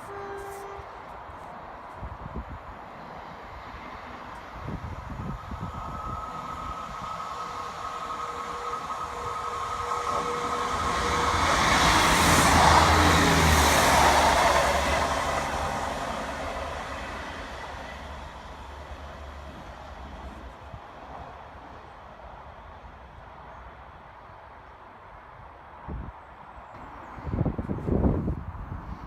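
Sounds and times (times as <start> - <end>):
train passing with whine: 0.0 - 29.0.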